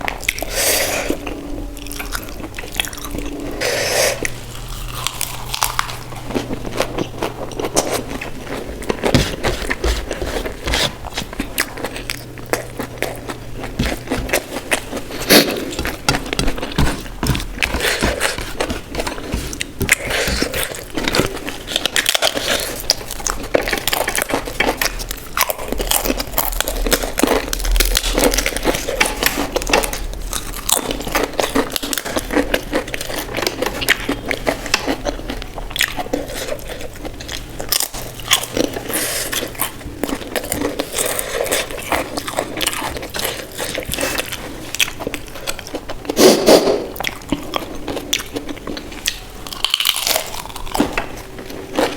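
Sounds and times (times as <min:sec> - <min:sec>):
person chewing crisp food: 0:00.0 - 0:51.9.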